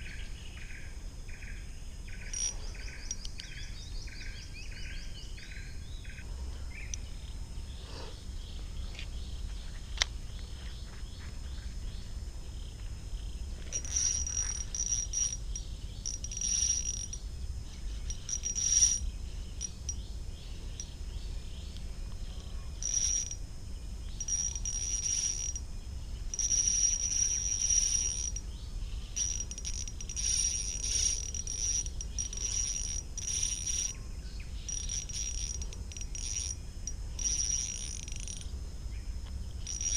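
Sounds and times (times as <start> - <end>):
constant low rumble: 0.0 - 39.9
insects buzzing: 0.0 - 39.9.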